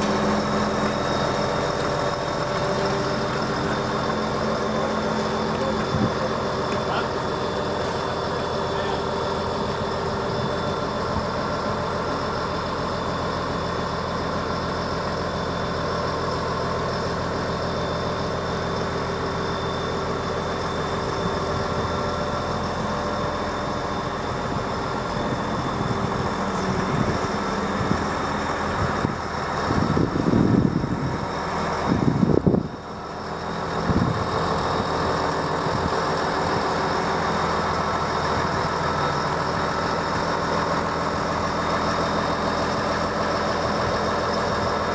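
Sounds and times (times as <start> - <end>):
engine droning hum: 0.0 - 44.9.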